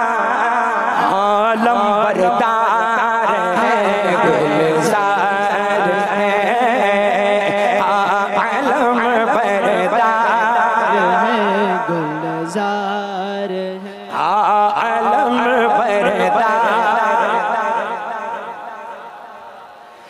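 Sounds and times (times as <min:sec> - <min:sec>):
devotional singing with vibrato: 0:00.0 - 0:20.0.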